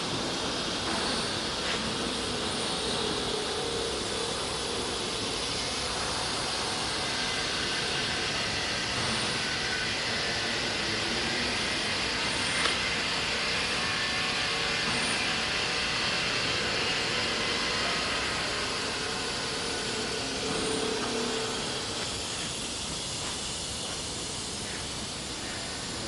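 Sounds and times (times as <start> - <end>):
wood router running: 0.0 - 26.0.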